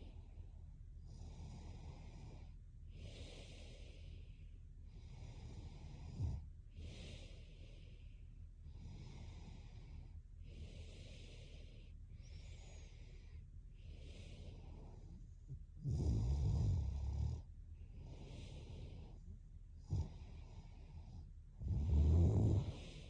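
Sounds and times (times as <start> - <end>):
woman breathing heavily in sleep: 0.0 - 23.0.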